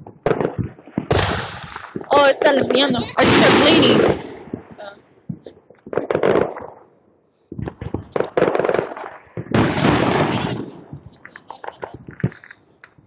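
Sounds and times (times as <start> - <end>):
fireworks crackling pops: 0.0 - 6.9, 7.5 - 13.0.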